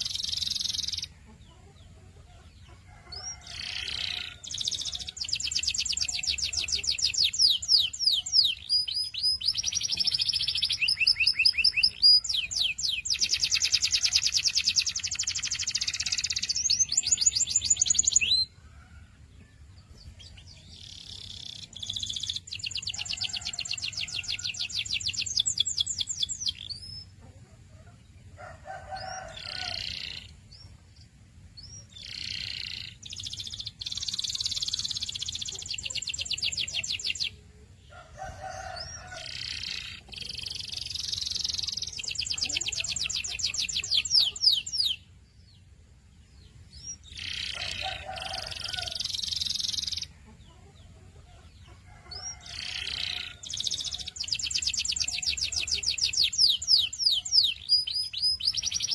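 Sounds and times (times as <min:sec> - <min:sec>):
canary singing trills: 0:00.0 - 0:18.8, 0:19.8 - 0:58.9.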